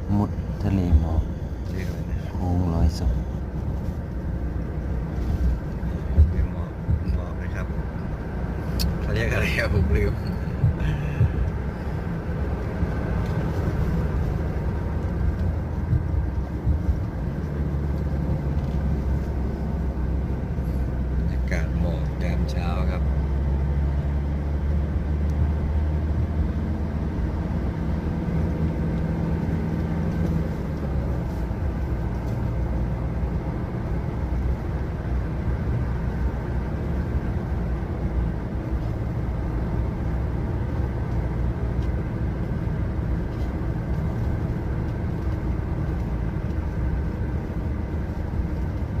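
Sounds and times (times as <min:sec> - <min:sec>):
road rumble: 0:00.0 - 0:49.0
vehicle engine hum: 0:00.0 - 0:49.0.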